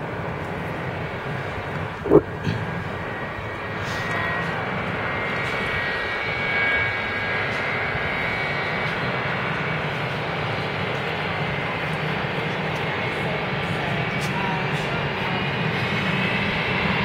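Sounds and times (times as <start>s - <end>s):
jet engines at taxi power: 0.0s - 17.0s.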